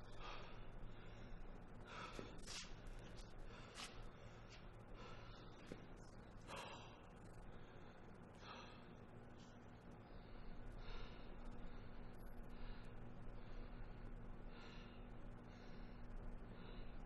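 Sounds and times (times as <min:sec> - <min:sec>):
low room hum: 0:00.0 - 0:17.0
man breathing heavily: 0:00.0 - 0:17.0.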